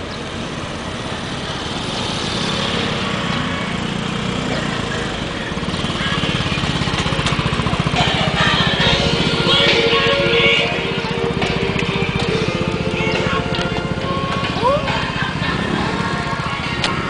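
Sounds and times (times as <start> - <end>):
road noise: 0.0 - 17.0
scooter engine running: 0.0 - 17.0.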